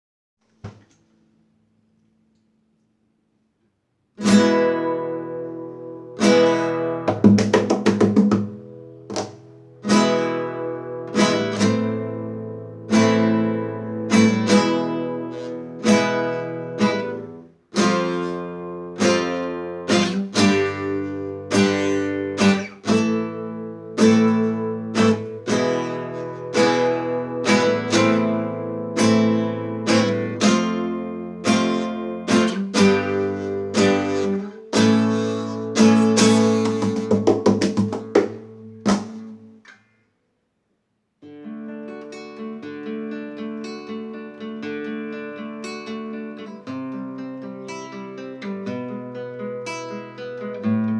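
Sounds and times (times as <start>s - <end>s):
acoustic guitar strumming: 4.2s - 39.8s, 41.2s - 50.9s.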